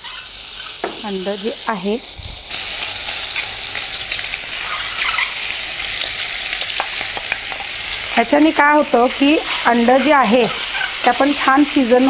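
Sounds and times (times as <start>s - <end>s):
eggs sizzling in hot oil: 0.0s - 12.0s.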